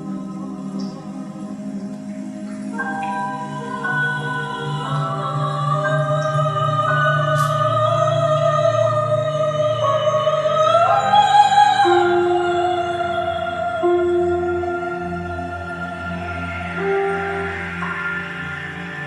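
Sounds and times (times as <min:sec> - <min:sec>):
low musical accompaniment: 0:00.0 - 0:19.0
soprano singing opera: 0:00.0 - 0:19.0.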